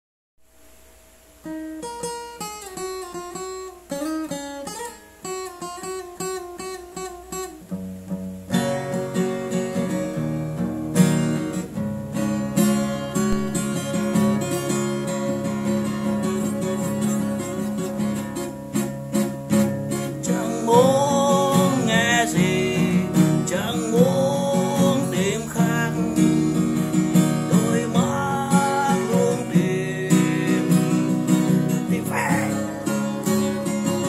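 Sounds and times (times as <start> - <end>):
acoustic guitar playing: 0.4 - 34.0.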